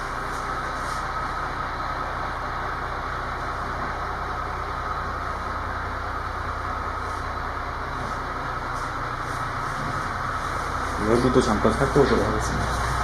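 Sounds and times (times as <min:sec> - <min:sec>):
crane engine droning: 0:00.0 - 0:13.0.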